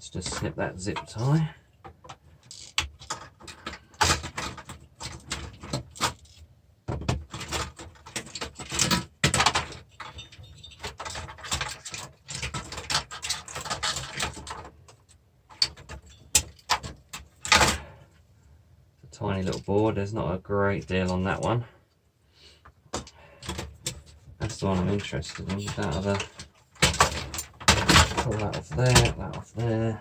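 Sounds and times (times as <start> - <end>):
metal parts clicking and rattling: 0.3 - 18.0, 22.9 - 30.0.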